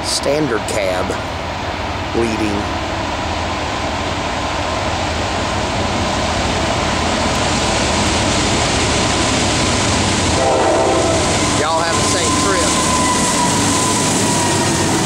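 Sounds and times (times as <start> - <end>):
diesel locomotive engines under load: 0.0 - 15.0.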